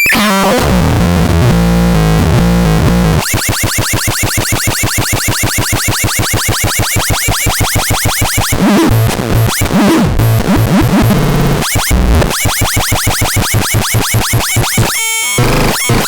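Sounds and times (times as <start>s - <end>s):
glitchy tones and bass stabs: 0.0s - 16.0s.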